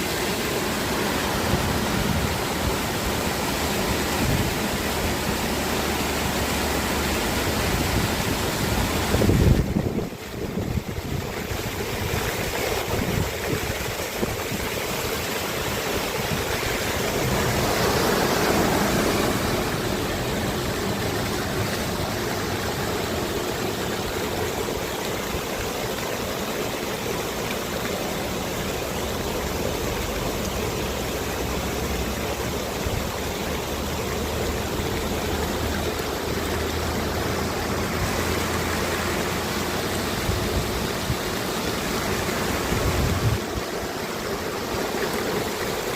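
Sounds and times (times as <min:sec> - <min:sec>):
heavy rain falling: 0:00.0 - 0:45.9
rainwater running: 0:00.0 - 0:45.9.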